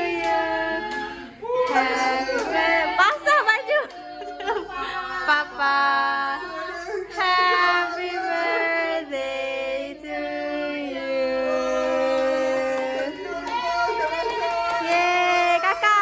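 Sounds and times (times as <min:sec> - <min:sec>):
people singing together: 0:00.0 - 0:15.6.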